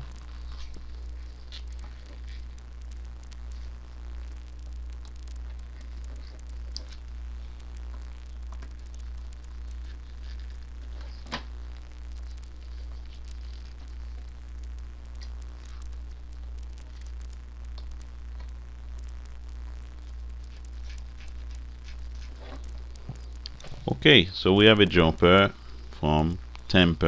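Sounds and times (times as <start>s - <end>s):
clicks and rustles of handling wires: 0.0s - 27.0s
low electrical hum: 0.0s - 27.0s.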